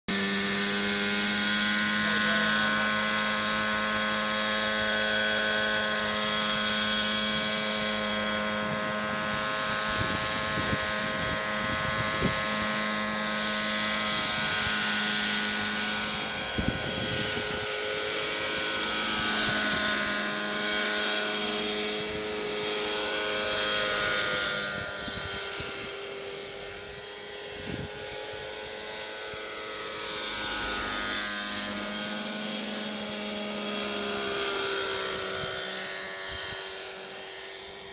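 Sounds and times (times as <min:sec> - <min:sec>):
helicopter rotor noise: 0:00.1 - 0:37.9
model helicopter engine whine: 0:00.1 - 0:37.9.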